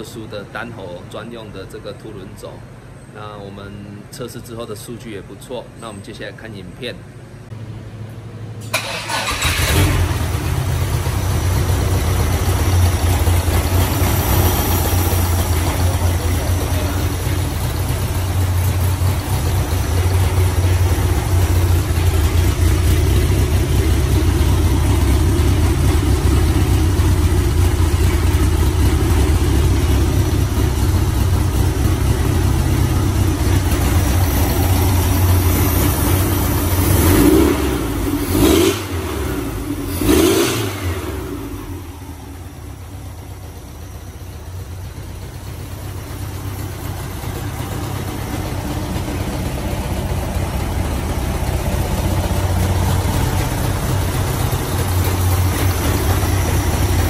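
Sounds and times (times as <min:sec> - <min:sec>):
car engine starting and running: 0:07.0 - 0:57.0.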